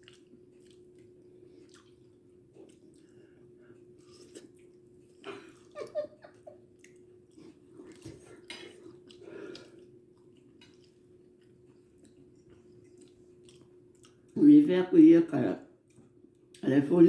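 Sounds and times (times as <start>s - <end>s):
person chewing food: 0.0s - 14.4s, 15.8s - 16.6s.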